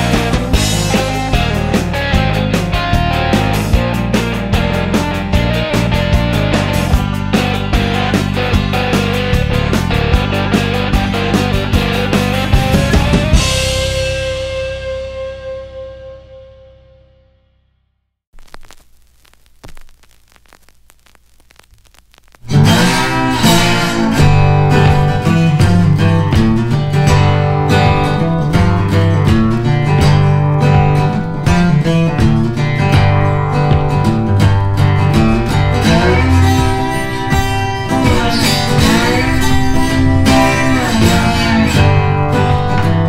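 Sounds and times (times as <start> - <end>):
strummed acoustic guitar music: 0.0 - 14.5, 22.5 - 43.0.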